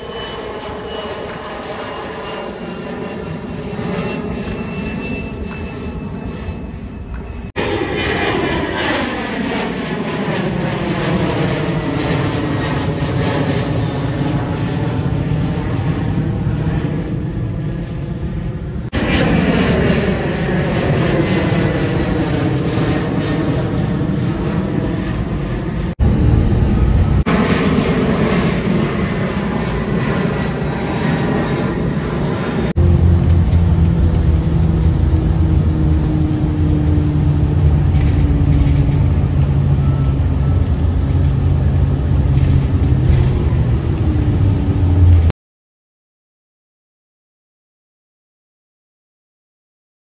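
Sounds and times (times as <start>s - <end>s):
airliner jet engines climbing: 0.0s - 45.3s.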